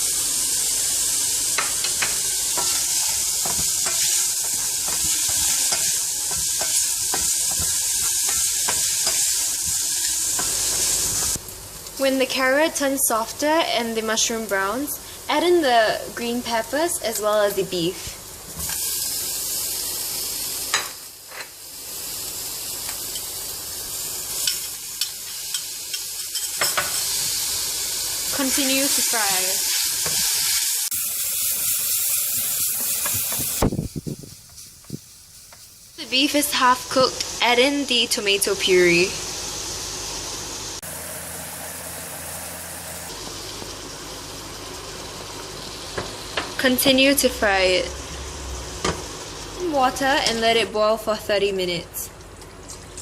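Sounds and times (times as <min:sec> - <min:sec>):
food sizzling in frying pan: 0:00.0 - 0:50.7.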